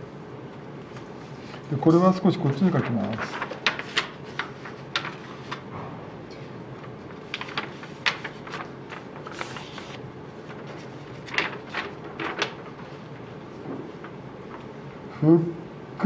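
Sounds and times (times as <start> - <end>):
room noise: 0.0 - 16.0.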